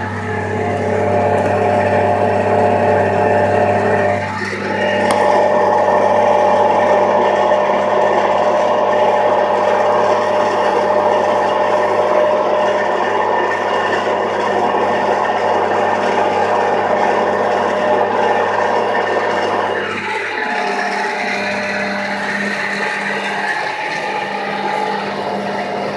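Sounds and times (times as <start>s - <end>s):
tractor diesel engine under load: 0.0s - 25.9s.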